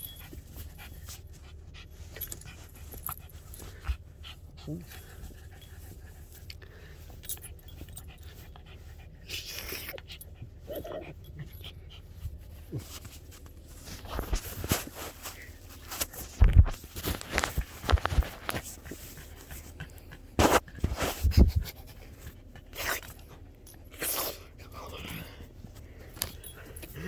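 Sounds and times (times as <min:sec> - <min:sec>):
dog panting: 0:00.0 - 0:13.0, 0:17.4 - 0:27.0.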